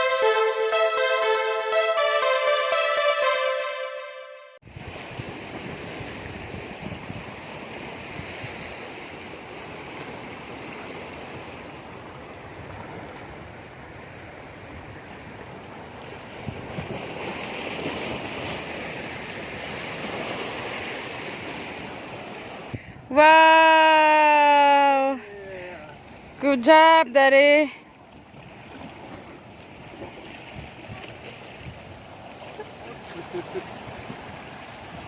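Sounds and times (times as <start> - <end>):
surf water noise: 0.0 - 35.0.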